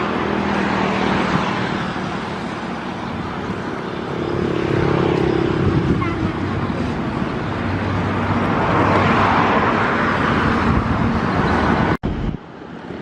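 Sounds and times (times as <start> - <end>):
dense rushing noise: 0.0 - 13.0.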